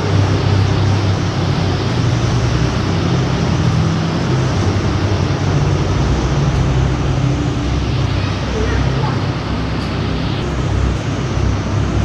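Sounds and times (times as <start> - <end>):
constant rushing noise: 0.0 - 12.0
diesel engine running at low revs: 0.0 - 12.0.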